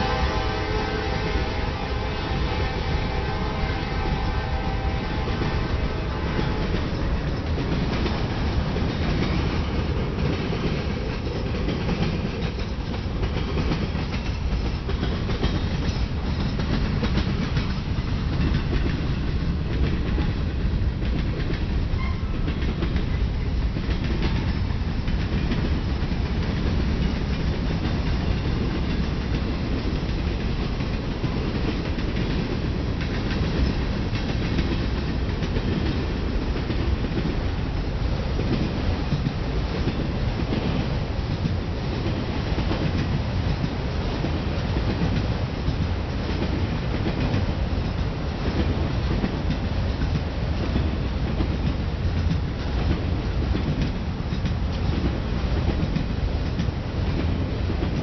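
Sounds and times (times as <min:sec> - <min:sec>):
freight train rolling past: 0:00.0 - 0:58.0
wheels clicking over rail joints: 0:03.8 - 0:58.0.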